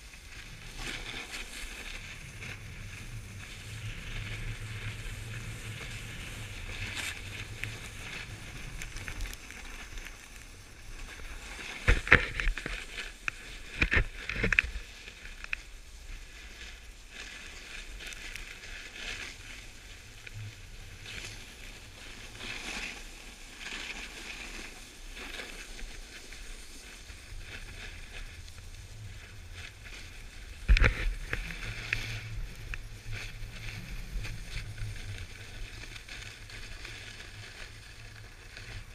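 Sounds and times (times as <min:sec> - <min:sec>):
snowboard hissing on snow: 0:00.0 - 0:13.8, 0:14.7 - 0:38.9.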